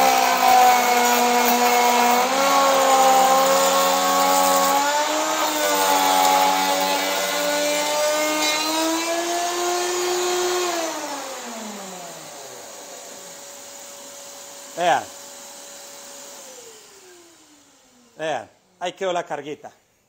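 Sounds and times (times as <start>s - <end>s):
router cutting wood: 0.0s - 18.8s
router winding down whine: 0.0s - 18.8s.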